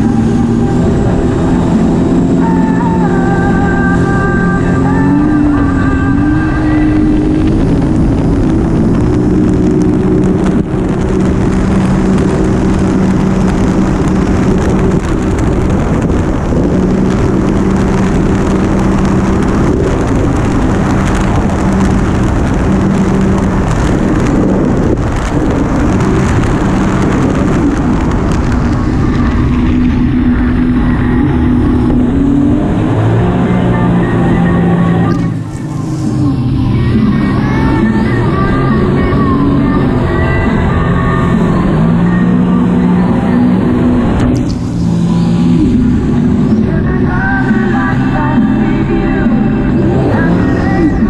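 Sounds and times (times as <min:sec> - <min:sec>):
personal watercraft engine running: 0:00.0 - 0:51.0
wind and water rushing: 0:00.0 - 0:51.0.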